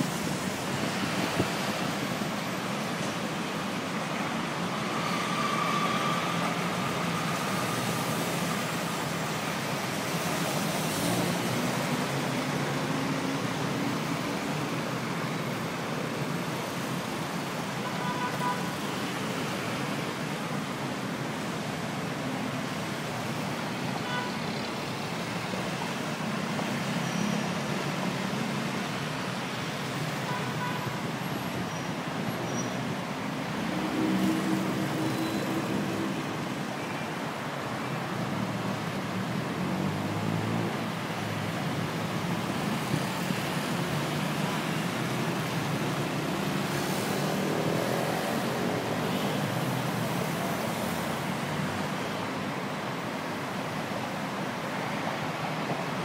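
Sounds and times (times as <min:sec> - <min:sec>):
heavy road traffic: 0:00.0 - 0:56.0.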